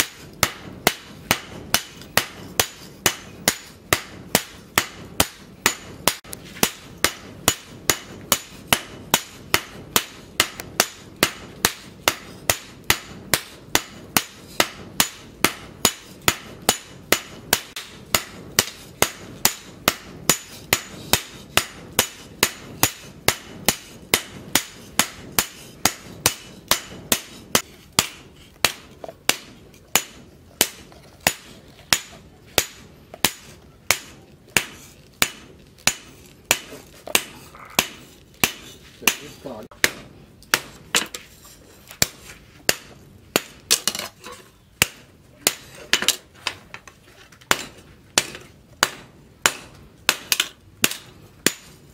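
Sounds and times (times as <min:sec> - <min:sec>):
hammer striking hot metal on anvil: 0:00.0 - 0:41.2, 0:42.0 - 0:44.0, 0:47.5 - 0:51.8.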